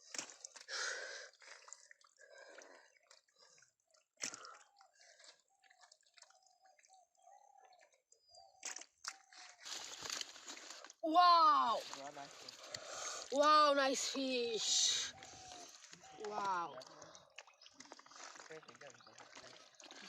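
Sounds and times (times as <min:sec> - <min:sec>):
water splashing: 0:00.0 - 0:06.4, 0:08.6 - 0:20.0
muddy water dripping and squelching: 0:00.0 - 0:20.0.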